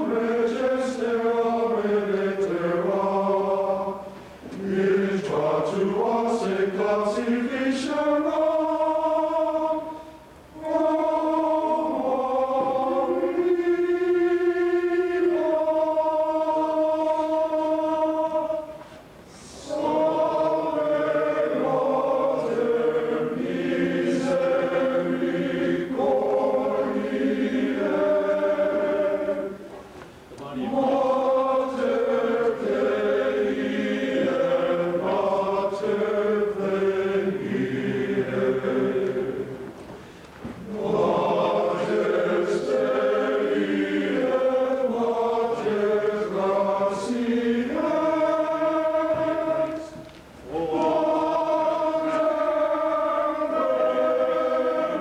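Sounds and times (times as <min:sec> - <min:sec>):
men's choir singing: 0:00.0 - 0:29.8, 0:30.4 - 0:40.0, 0:40.6 - 0:55.0.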